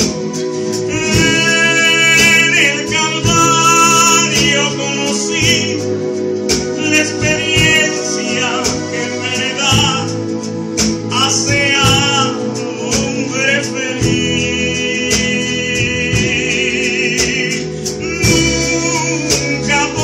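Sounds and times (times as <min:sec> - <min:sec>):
acoustic guitar: 0:00.0 - 0:20.0
live band playing: 0:00.0 - 0:20.0
man singing with vibrato: 0:00.0 - 0:20.0.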